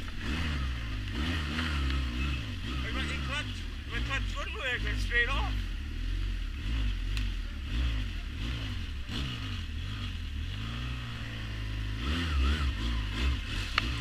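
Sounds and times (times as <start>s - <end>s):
quad bike engine revving: 0.0s - 14.0s.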